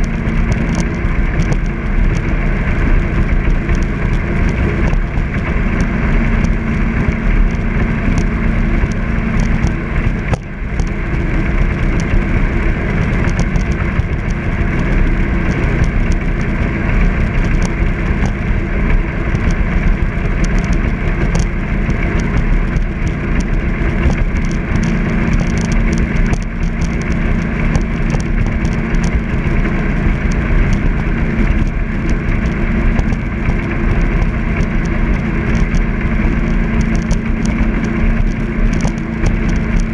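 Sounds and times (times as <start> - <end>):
jet boat engine drone: 0.0 - 39.9
water rushing: 0.0 - 39.9.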